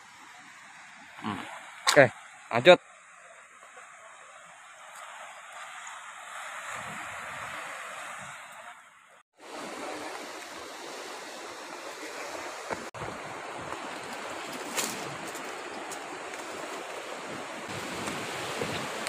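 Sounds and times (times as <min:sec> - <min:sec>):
surf washing on shore: 0:00.0 - 0:19.0.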